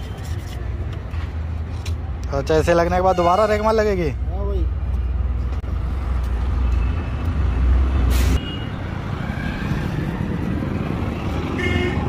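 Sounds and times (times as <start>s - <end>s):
light traffic noise: 0.0s - 12.0s.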